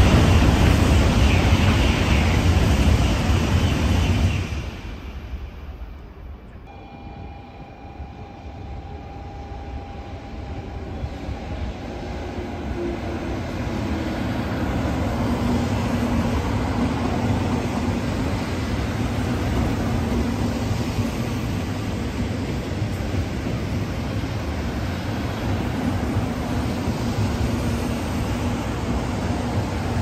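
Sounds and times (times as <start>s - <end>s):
high-speed train passing: 0.0s - 30.0s.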